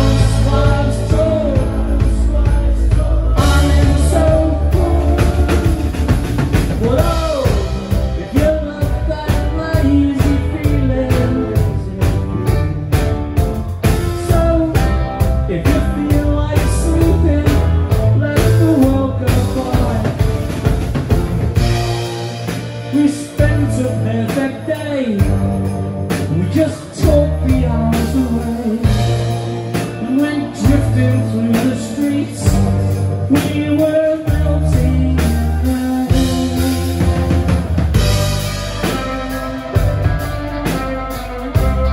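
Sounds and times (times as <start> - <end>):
man singing: 0.0 - 13.1, 13.8 - 41.9
bass guitar: 0.0 - 41.9
drum kit: 0.0 - 41.9
electric guitar: 0.0 - 41.9.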